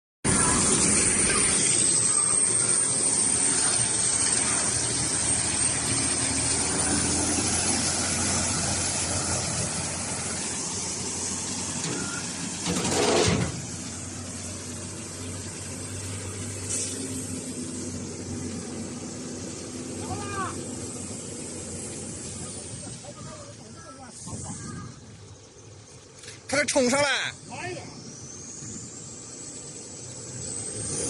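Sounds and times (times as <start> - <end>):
loud burst of noise: 0.2 - 25.8
diesel truck engine running: 0.2 - 31.0.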